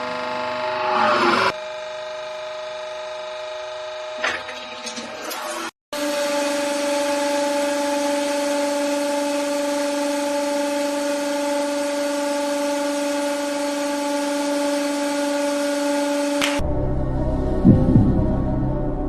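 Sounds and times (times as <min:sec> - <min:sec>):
hydraulic pump whining: 0:00.0 - 0:16.6.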